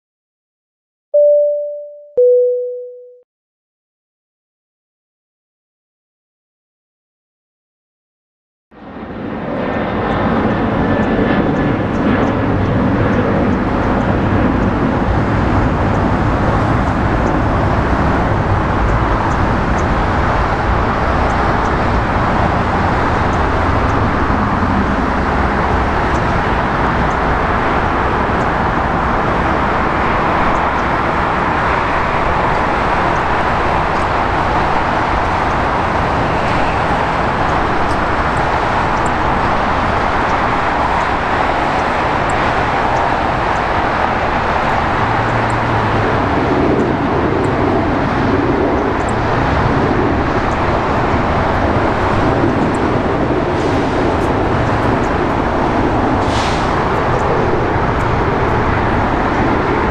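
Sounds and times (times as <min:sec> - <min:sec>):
jet engines rushing while taxiing: 0:08.8 - 0:59.9.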